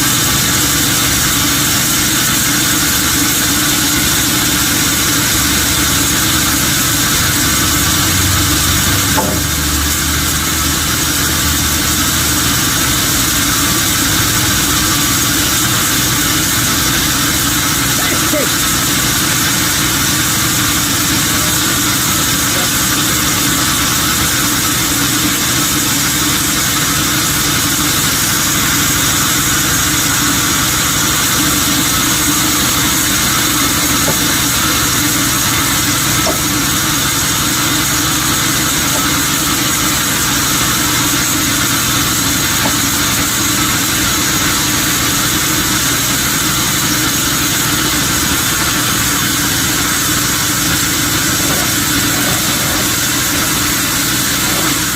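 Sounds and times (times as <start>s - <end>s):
sawmill machinery drone: 0.0s - 54.9s.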